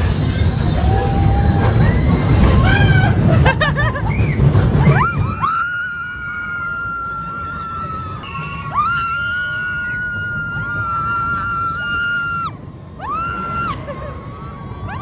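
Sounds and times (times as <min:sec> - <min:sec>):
roller coaster train rumble: 0:00.0 - 0:15.0.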